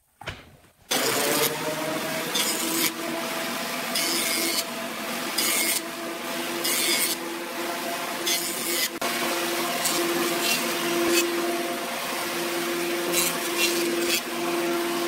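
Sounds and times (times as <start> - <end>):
jointer humming: 0.9 - 15.0.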